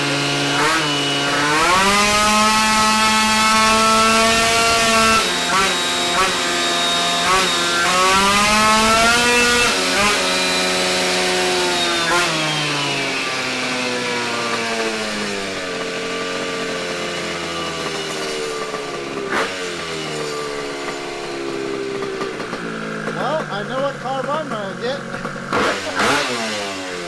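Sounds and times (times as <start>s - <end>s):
scooter engine revving and winding down: 0.0s - 27.0s.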